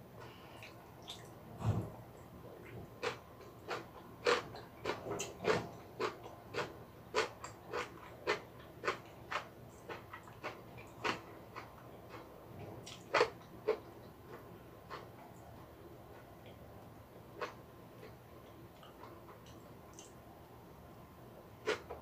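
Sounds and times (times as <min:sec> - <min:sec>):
chewing food: 0:02.4 - 0:20.2.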